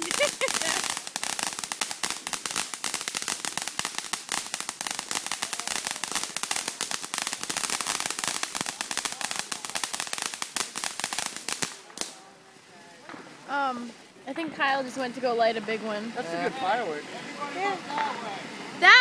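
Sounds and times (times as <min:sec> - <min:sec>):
firework fountain crackling: 0:00.0 - 0:19.0.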